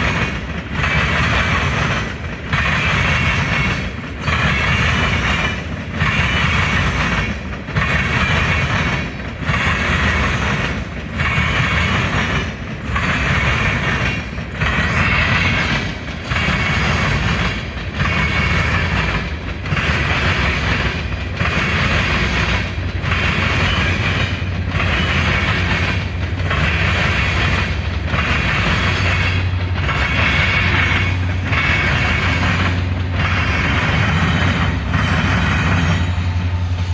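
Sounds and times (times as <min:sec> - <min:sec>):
train rumbling past: 0:00.0 - 0:36.9.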